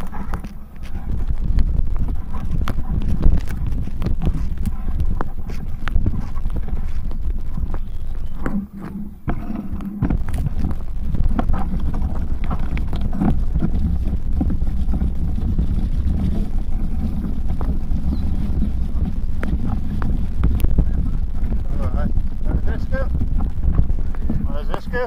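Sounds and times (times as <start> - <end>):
bicycle rattling on rough ground: 0.0 - 25.0
wind on microphone: 0.0 - 25.0.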